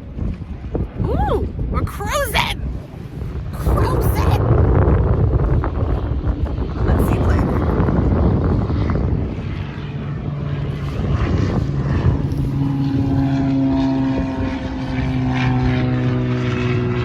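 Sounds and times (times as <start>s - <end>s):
propeller engine droning: 0.0s - 17.0s.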